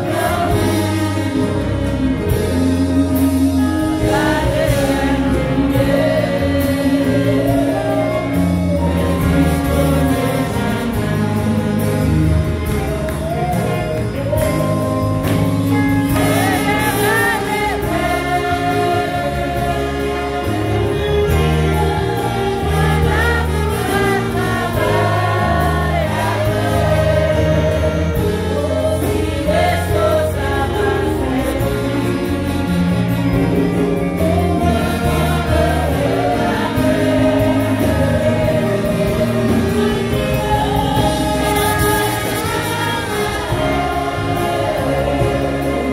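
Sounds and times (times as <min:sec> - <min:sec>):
group singing praise song: 0:00.0 - 0:45.9
instrumental accompaniment with bass: 0:00.0 - 0:45.9.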